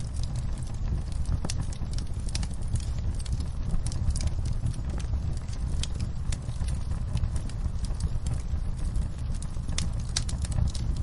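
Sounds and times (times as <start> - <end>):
low rumble: 0.0 - 11.0
rain on a window: 0.0 - 11.0
wood fire crackling and popping: 0.0 - 11.0.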